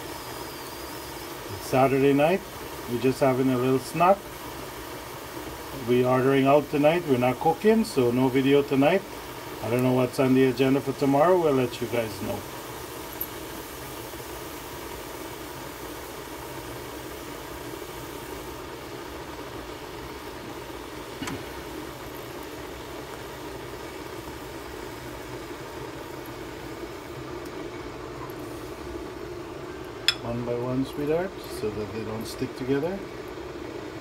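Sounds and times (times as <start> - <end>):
low hum with hiss: 0.0 - 34.0
oil bubbling in frying pan: 0.0 - 34.0.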